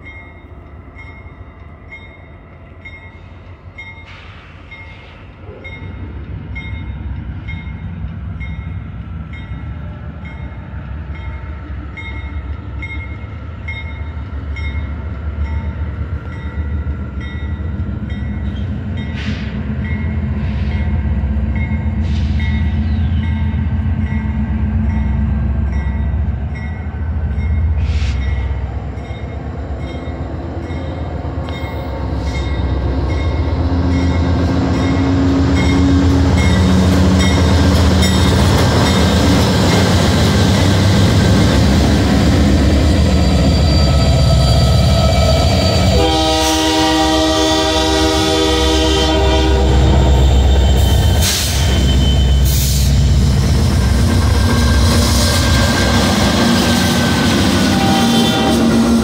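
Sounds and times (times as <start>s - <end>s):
diesel locomotive rumbling: 0.0s - 59.0s.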